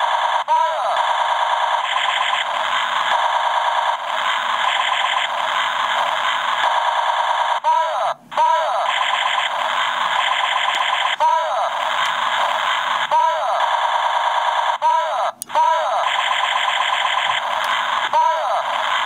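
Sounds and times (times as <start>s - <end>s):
toy laser gun pulsing rattle: 0.0s - 19.0s.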